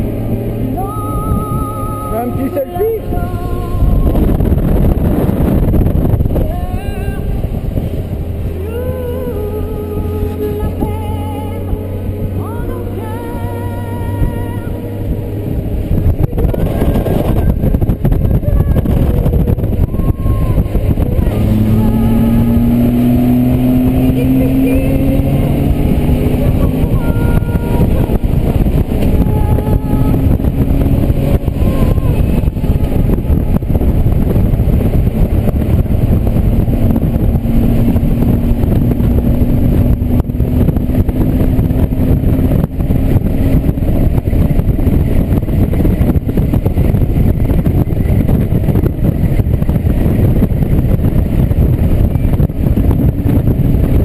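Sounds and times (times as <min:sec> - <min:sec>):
motorcycle engine running: 0:00.0 - 0:54.0
wind rush: 0:00.0 - 0:54.0.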